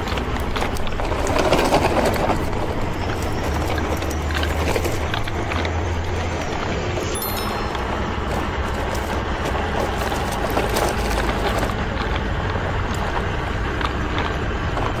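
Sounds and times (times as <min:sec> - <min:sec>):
toy truck wheels rumbling on dirt: 0:00.0 - 0:07.2, 0:07.8 - 0:15.0.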